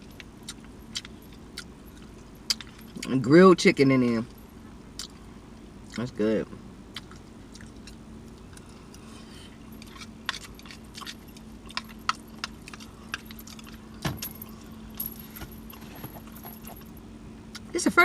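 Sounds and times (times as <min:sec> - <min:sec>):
chewing and lip smacking: 0:00.0 - 0:03.2, 0:04.6 - 0:06.2, 0:06.9 - 0:15.0, 0:15.6 - 0:17.7
steady low hum: 0:00.0 - 0:18.0.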